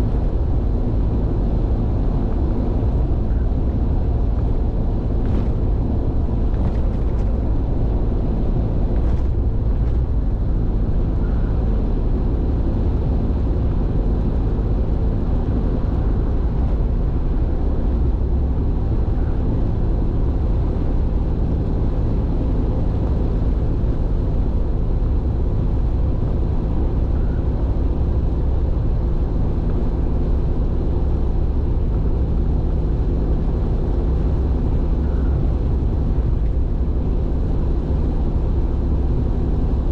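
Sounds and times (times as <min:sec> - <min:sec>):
faint engine hum: 0:00.0 - 0:39.9
tyre and road rumble: 0:00.0 - 0:39.9.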